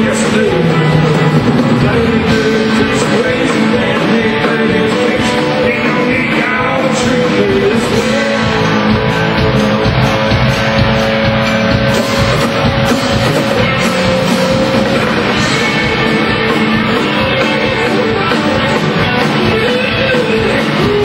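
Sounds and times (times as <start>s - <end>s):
country band playing live: 0.0s - 21.0s.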